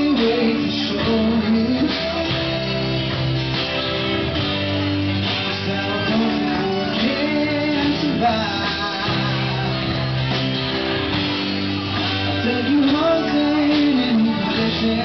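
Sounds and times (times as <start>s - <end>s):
acoustic and electric guitars: 0.0s - 15.0s
live rock band playing: 0.0s - 15.0s
man singing: 0.0s - 15.0s.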